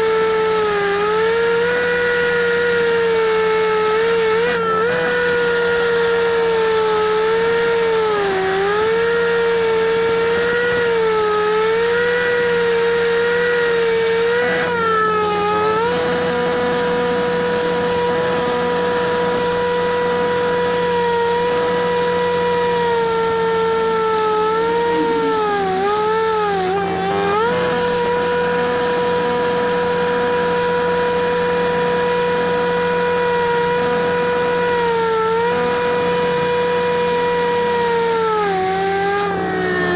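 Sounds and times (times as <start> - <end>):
concrete saw whining: 0.0 - 39.9.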